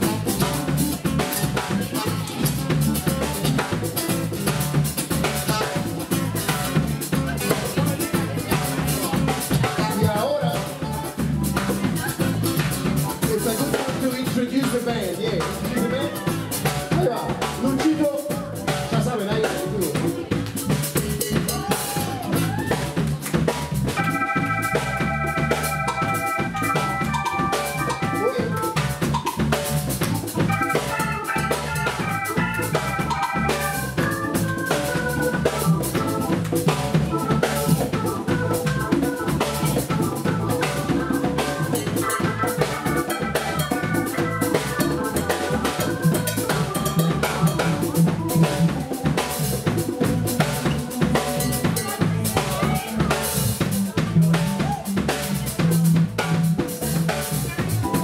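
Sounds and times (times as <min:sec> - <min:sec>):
latin band playing instrumental: 0:00.0 - 0:58.0.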